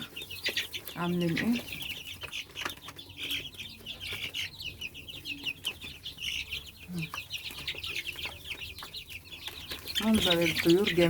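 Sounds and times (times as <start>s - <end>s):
turkey poults peeping: 0.0s - 11.0s.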